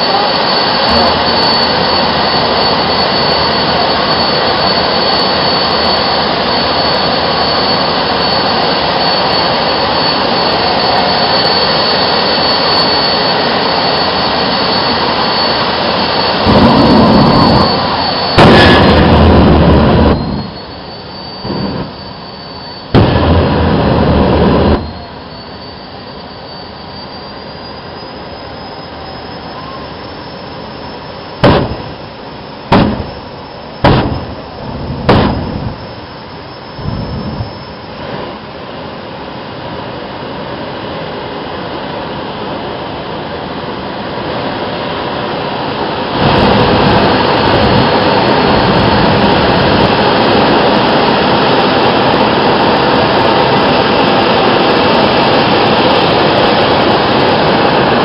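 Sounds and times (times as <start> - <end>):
jet engine roaring: 0.0 - 58.0
jet engine whine: 0.0 - 58.0.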